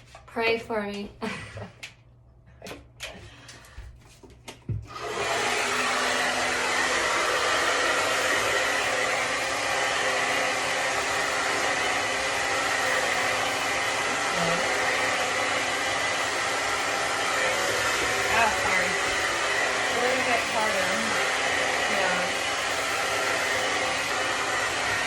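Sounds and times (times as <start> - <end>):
blow dryer running: 4.9 - 25.0.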